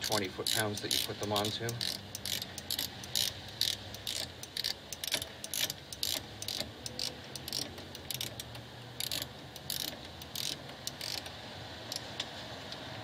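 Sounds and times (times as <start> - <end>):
ratchet wrench clicking: 0.0 - 11.3, 11.9 - 12.2.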